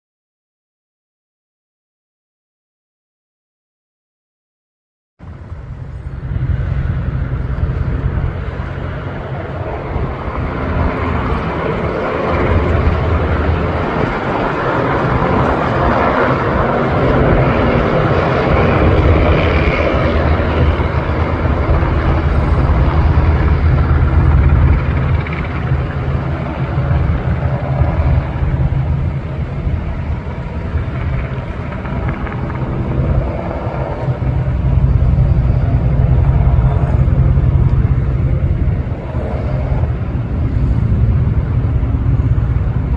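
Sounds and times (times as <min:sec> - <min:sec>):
airplane flying past: 0:05.2 - 0:42.9.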